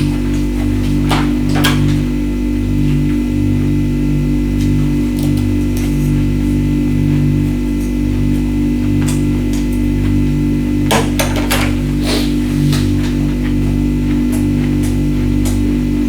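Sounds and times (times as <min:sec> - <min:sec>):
low pulsing music-like hum: 0:00.0 - 0:16.0.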